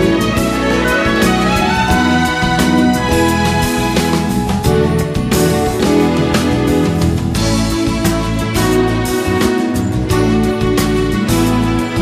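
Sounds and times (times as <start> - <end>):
plucked string background music: 0.0 - 12.0.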